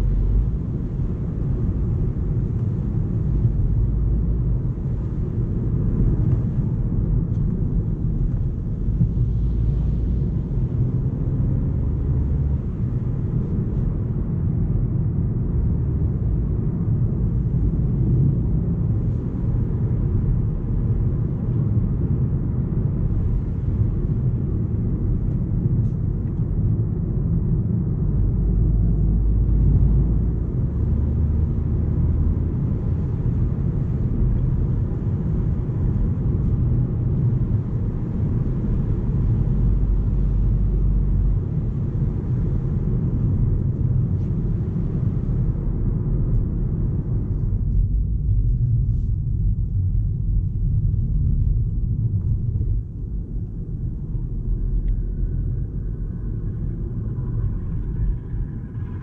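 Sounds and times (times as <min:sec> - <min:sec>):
car engine and tyre drone: 0:00.0 - 0:59.0.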